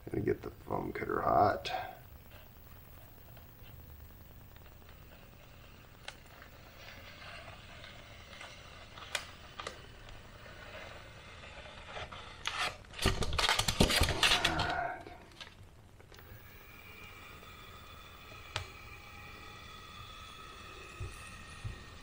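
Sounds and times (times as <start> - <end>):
faint foam crackles: 0.0 - 22.0.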